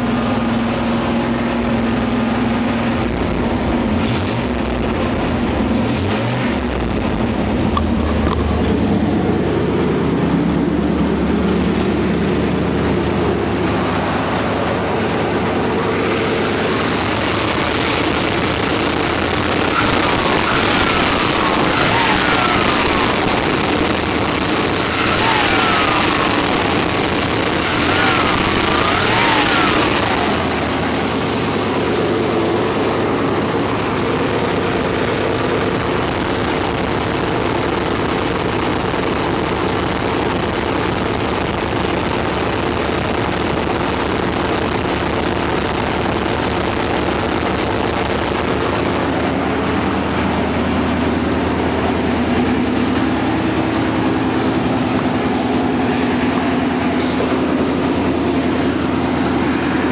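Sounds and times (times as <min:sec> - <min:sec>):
engine running: 0:00.0 - 0:59.9
engine whine: 0:00.0 - 0:59.9.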